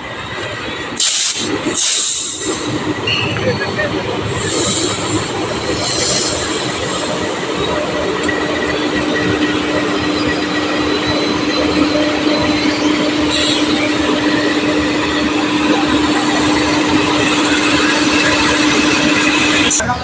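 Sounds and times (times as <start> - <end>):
diesel locomotive engine hum: 0.0 - 20.0
steel wheels rolling on rails: 0.0 - 20.0.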